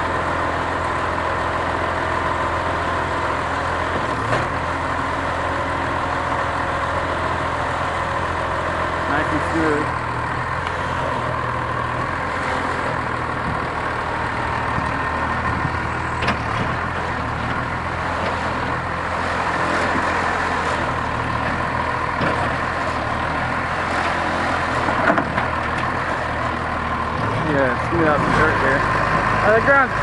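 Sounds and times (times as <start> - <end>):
dozer diesel engine under load: 0.0 - 30.0.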